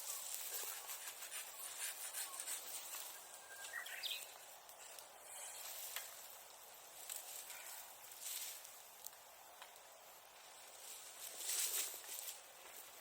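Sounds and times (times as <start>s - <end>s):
bonfire crackling and hissing: 0.0s - 13.0s.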